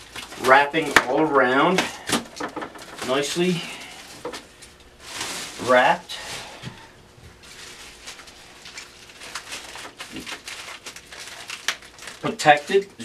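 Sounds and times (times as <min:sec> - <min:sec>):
plastic and bubble wrap crinkling: 0:00.0 - 0:13.0.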